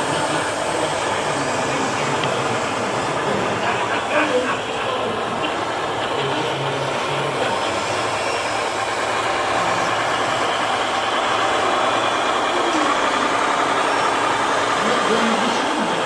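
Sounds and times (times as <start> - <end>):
model truck motor drone: 0.0 - 16.0.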